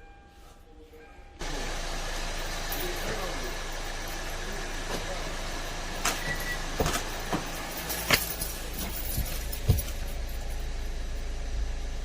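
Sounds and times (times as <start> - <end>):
car engine humming: 1.4 - 12.0.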